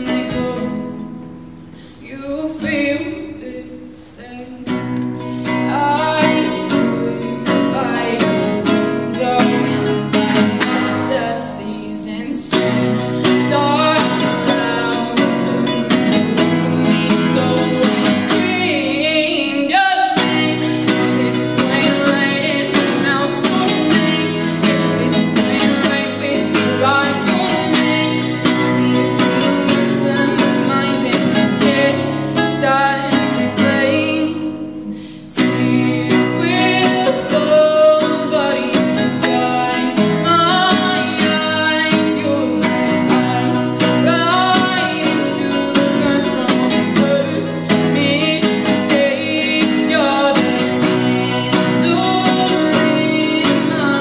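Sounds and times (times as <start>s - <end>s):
girl singing: 0.0s - 54.0s
strummed classical guitar: 0.0s - 54.0s.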